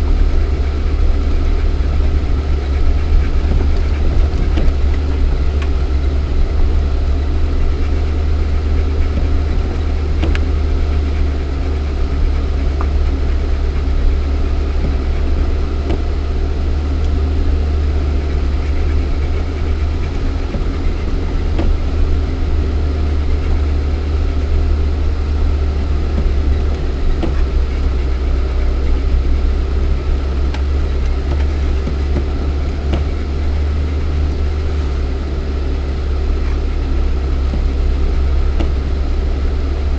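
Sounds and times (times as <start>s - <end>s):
car engine running heard from cabin: 0.0s - 39.9s.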